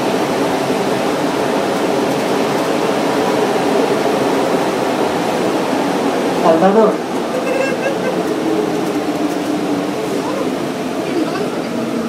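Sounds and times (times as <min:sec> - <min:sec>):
train running through tunnel: 0:00.0 - 0:12.0.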